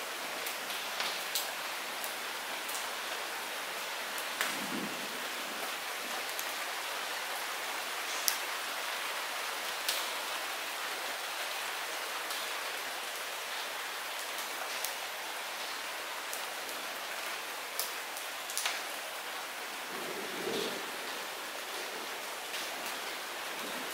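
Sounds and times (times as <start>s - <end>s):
light rain falling: 0.0s - 23.9s
raindrops ticking close by: 0.1s - 23.9s.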